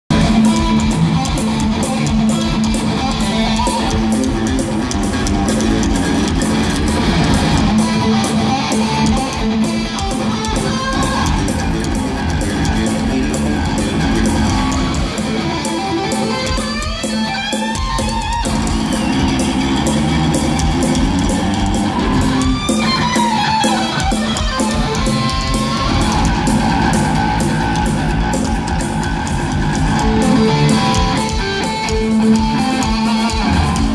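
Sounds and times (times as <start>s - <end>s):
electric bass: 0.1s - 33.9s
electric guitar: 0.1s - 33.9s.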